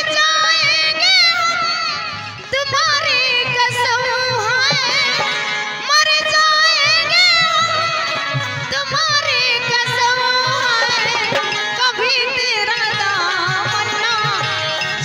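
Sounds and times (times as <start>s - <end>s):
woman singing folk song: 0.0s - 14.5s
harmonium chords: 0.0s - 15.0s.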